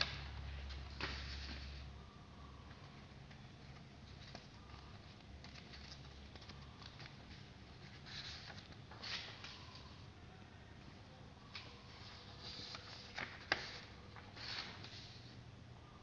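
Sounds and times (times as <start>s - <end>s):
paper rustling and crinkling: 0.0s - 1.9s, 2.7s - 10.0s, 11.5s - 15.4s
faint low hum: 0.0s - 16.0s.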